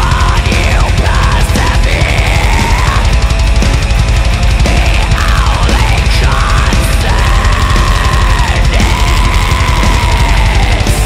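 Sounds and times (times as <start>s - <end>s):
heavy metal band playing: 0.0s - 11.0s.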